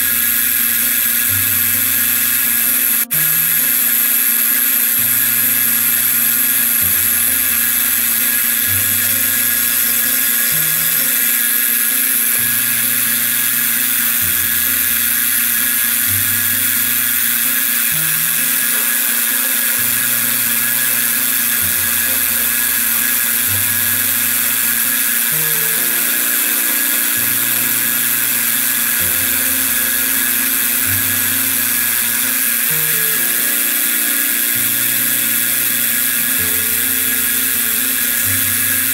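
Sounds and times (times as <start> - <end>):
milling machine cutting metal: 0.0 - 38.9.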